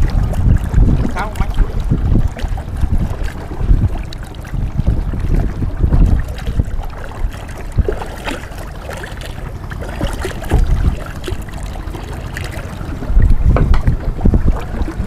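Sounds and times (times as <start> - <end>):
water splashing and trickling: 0.0 - 15.0
wind rumbling on microphone: 0.0 - 15.0.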